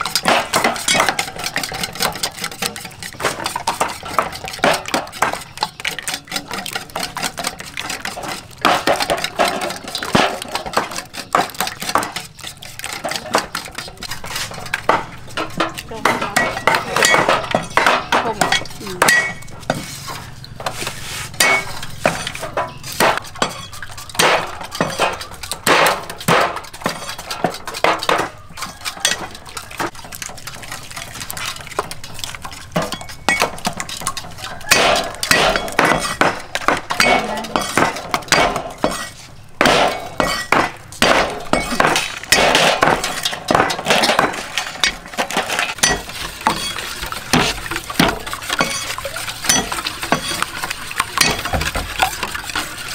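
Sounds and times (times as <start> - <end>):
whisk clinking against steel bowl: 0.0 - 52.9.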